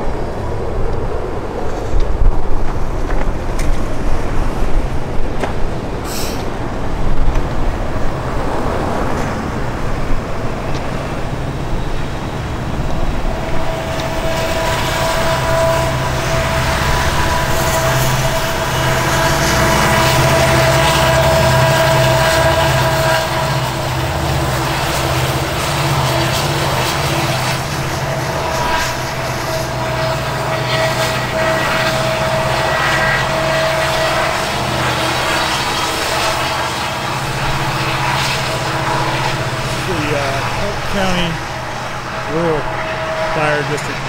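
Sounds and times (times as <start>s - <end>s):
large vehicle engine humming: 0.0s - 44.0s
steady whine: 0.0s - 44.0s.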